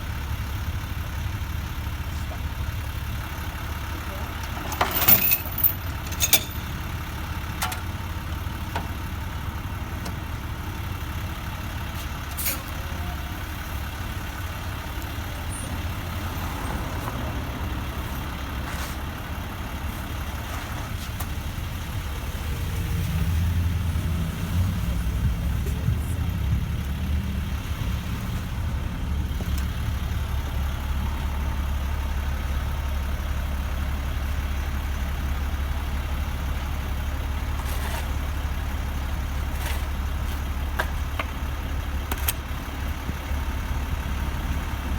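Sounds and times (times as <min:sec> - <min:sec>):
heavy equipment engine running: 0:00.0 - 0:44.9.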